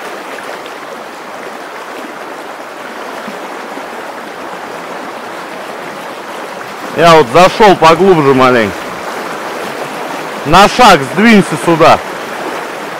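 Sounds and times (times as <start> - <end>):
river rushing over stones: 0.0 - 12.9.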